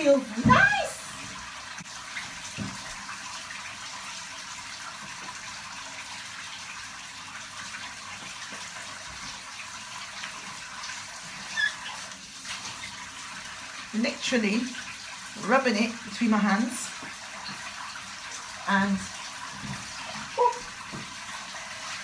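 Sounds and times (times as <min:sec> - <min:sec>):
shower running: 0:00.0 - 0:22.0.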